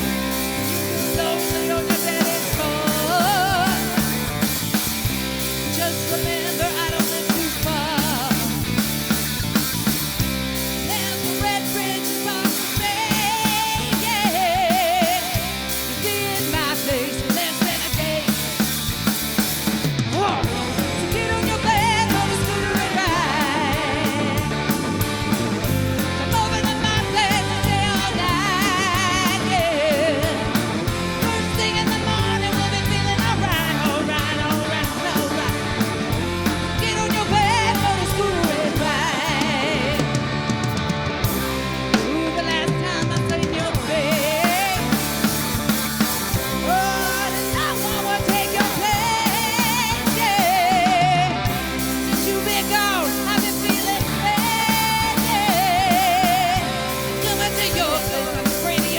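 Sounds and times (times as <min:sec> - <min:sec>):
lead singer: 0:00.0 - 0:58.9
rock band playing live: 0:00.0 - 0:58.9.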